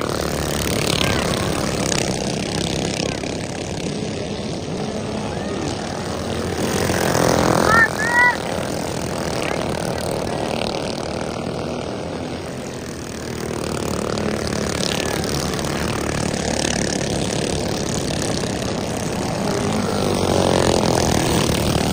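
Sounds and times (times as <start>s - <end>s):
go-kart engines buzzing: 0.0s - 21.9s.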